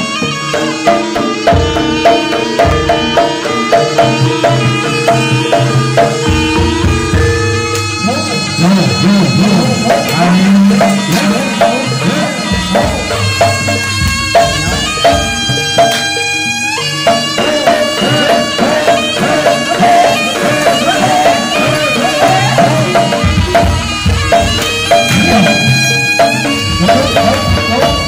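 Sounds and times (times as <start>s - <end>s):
hand drums: 0.0s - 28.0s
reedy shawm melody: 0.0s - 28.0s.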